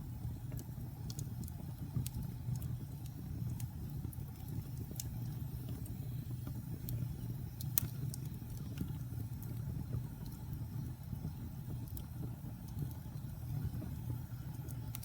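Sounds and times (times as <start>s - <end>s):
fire flames rumbling: 0.0s - 15.0s
logs crackling and popping: 0.4s - 15.0s.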